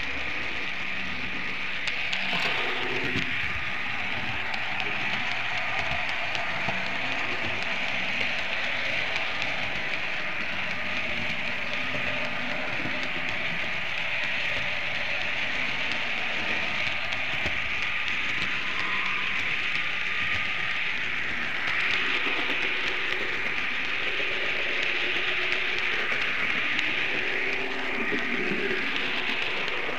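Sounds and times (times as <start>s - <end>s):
model train wheels rattling: 0.0s - 29.9s.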